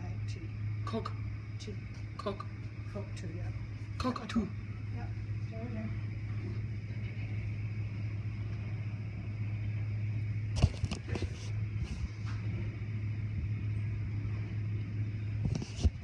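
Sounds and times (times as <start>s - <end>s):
car wash machinery hum: 0.0s - 16.0s.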